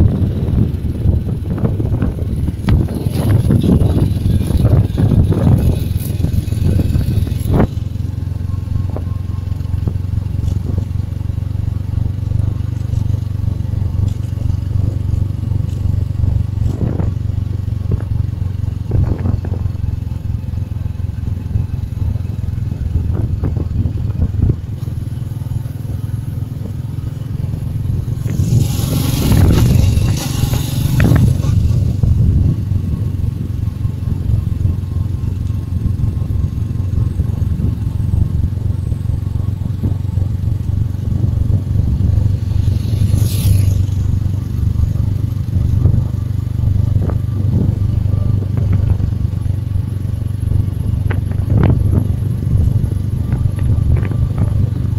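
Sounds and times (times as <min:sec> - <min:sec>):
motorcycle engine rumble: 0:00.0 - 0:54.9
wind and road noise: 0:00.0 - 0:54.9.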